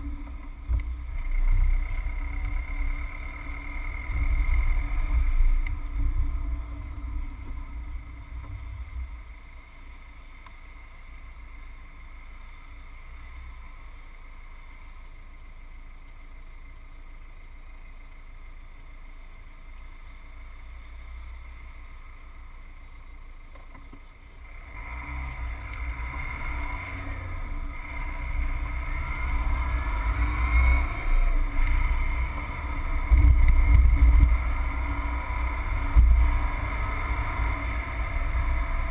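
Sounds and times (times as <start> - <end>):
low rumble: 0.0 - 19.3, 24.4 - 38.9
car engine from inside cabin: 0.0 - 38.9
tyre road noise: 0.0 - 38.9.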